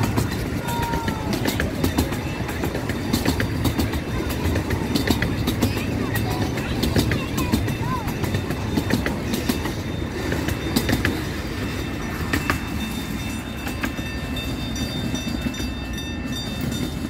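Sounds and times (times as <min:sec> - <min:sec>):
sharp rail clicks: 0:00.0 - 0:17.0
train wheels rumbling on rail: 0:00.0 - 0:17.0.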